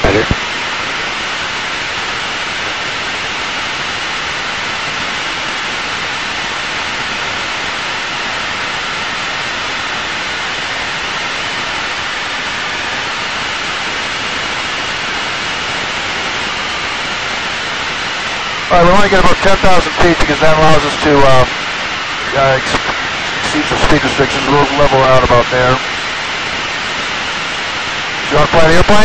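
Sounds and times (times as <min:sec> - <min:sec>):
jet engine rushing noise: 0:00.0 - 0:29.0.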